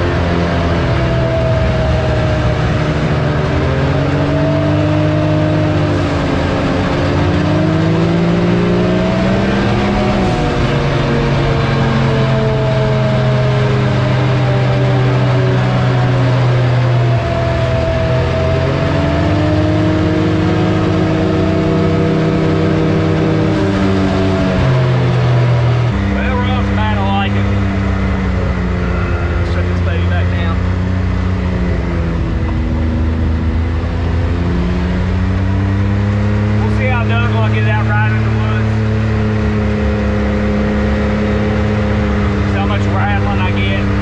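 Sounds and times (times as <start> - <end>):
road and wind noise: 0.0 - 44.0
vehicle engine revving: 0.0 - 44.0.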